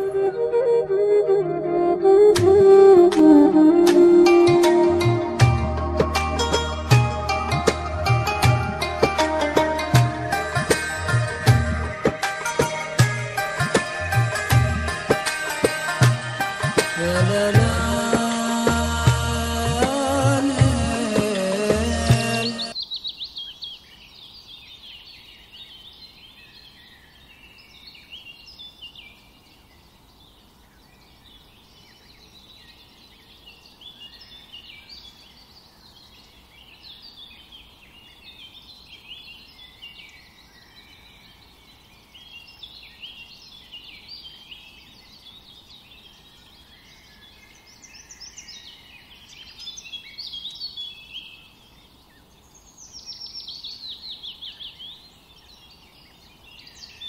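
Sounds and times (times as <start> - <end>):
small birds chirping: 6.1 - 57.0.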